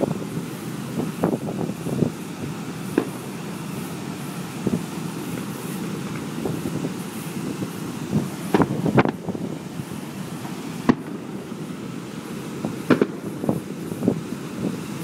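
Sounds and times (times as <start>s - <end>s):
wind on microphone: 0.0s - 11.5s, 12.5s - 15.0s
fireworks bangs: 0.0s - 15.0s
low rumble of fireworks show: 0.0s - 15.0s.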